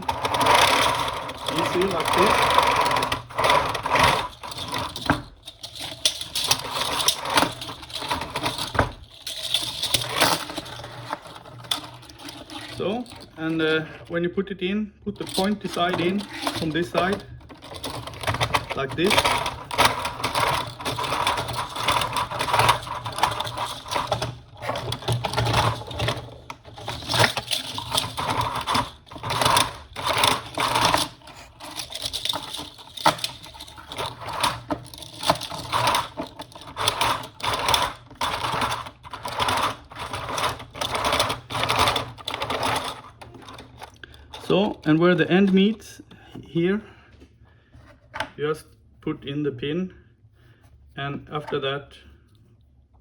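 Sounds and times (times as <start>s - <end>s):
conveyor chain links rattling: 0.0s - 13.9s, 15.2s - 45.5s.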